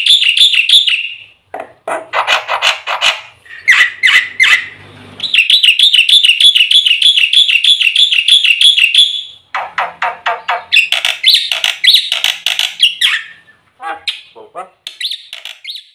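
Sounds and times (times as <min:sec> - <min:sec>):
starling singing trills: 0:02.2 - 0:15.9.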